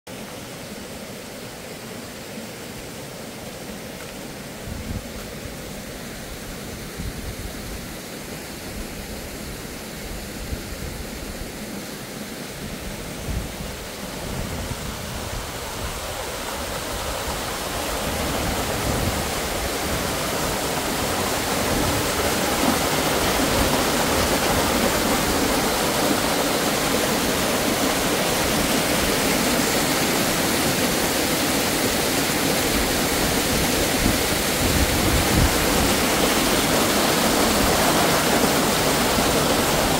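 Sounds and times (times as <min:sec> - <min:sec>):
waterfall rushing: 0:00.1 - 0:39.9.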